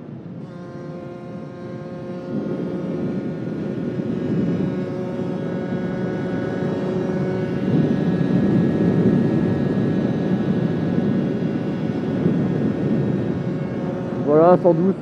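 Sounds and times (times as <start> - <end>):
motorcycle engine at speed: 0.0 - 15.0
wind rush on microphone: 0.0 - 15.0.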